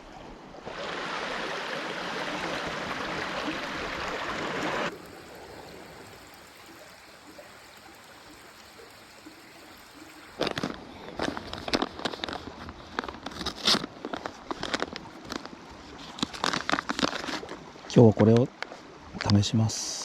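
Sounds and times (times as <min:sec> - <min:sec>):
mountain stream rushing: 0:00.0 - 0:19.2.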